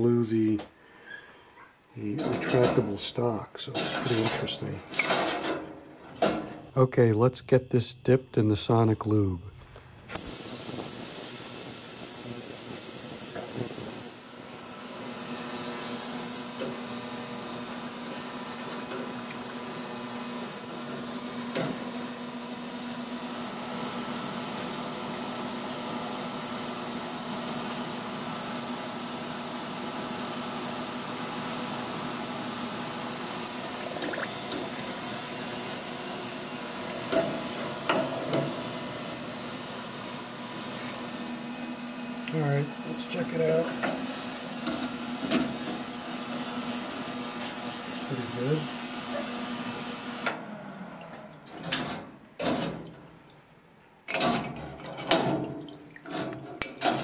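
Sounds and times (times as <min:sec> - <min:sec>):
ultrasonic tank hiss and hum: 0:02.0 - 0:54.3.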